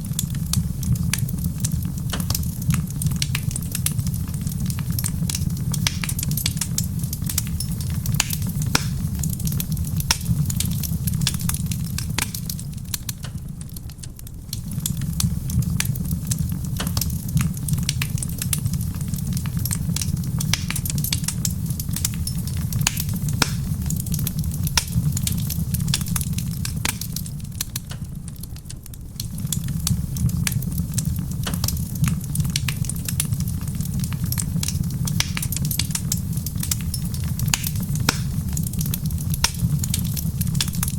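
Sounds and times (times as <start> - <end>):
soft rain: 0.0 - 40.9
wood fire crackling and popping: 0.0 - 40.9.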